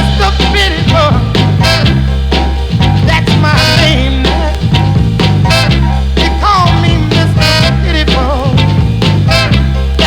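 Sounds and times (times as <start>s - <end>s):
rhythm and blues record playing: 0.0s - 10.0s.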